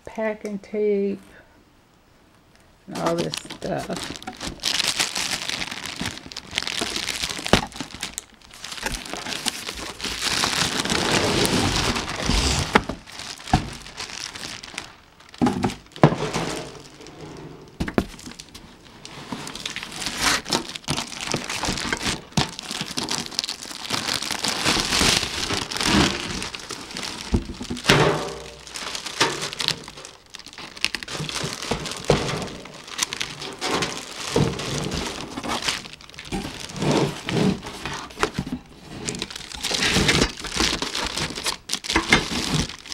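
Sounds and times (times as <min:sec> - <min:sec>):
plastic bags crinkling: 0:02.9 - 0:42.9
cardboard scraping: 0:03.0 - 0:28.0, 0:28.6 - 0:42.9.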